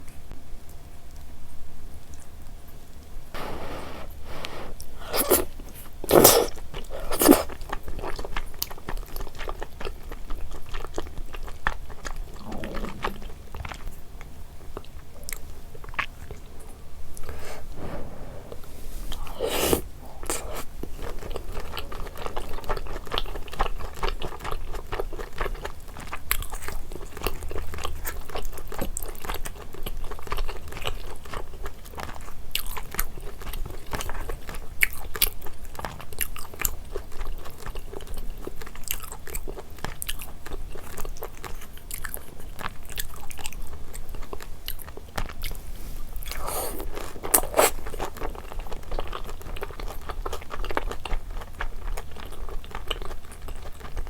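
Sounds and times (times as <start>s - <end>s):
chewing and biting food: 4.2s - 54.0s.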